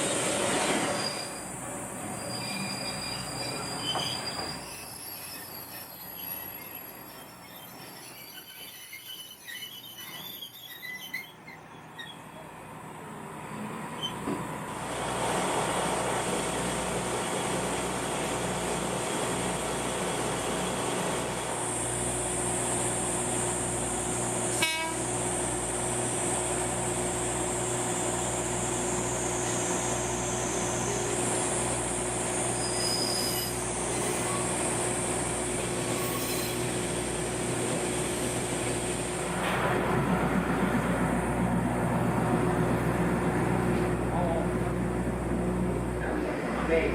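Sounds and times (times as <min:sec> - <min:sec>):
train engine drone: 0:00.0 - 0:46.9.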